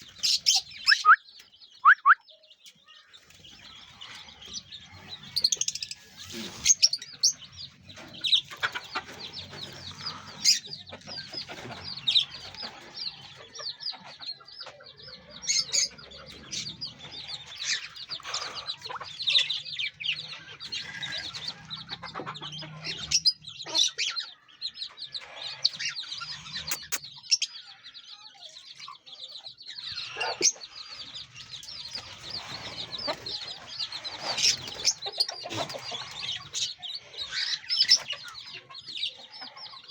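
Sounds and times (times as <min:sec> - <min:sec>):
chickens clucking: 0:00.0 - 0:39.9
small birds chirping: 0:00.0 - 0:39.9.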